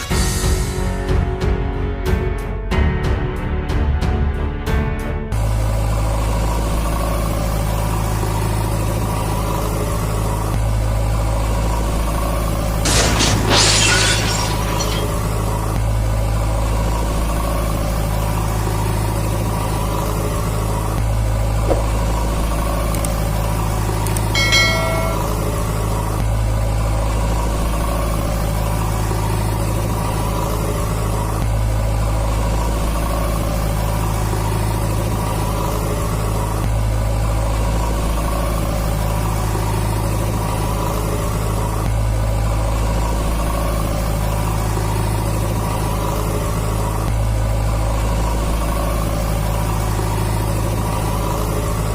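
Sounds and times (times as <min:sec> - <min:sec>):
vehicle engine idling: 0:05.4 - 0:51.9.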